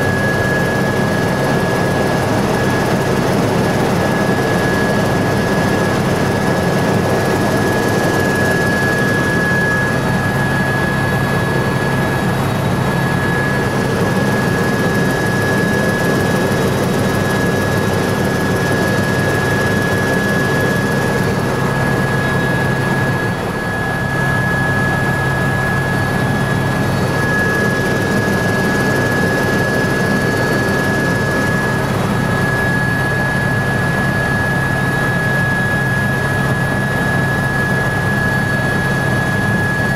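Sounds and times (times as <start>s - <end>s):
helicopter rotor and engine: 0.0s - 39.9s
high turbine whine: 0.0s - 39.9s.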